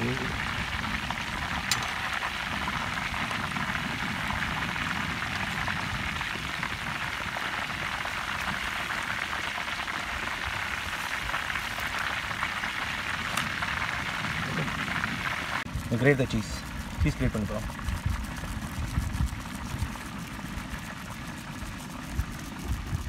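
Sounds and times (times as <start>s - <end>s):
oil sizzling with frying chicken: 0.0s - 23.0s.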